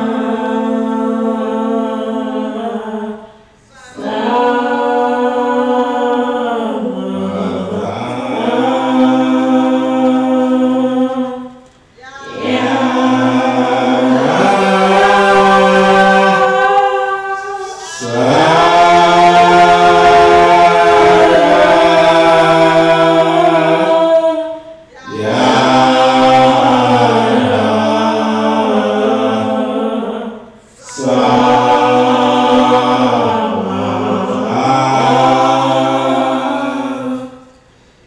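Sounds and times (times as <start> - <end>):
choir singing unaccompanied: 0.0 - 37.7.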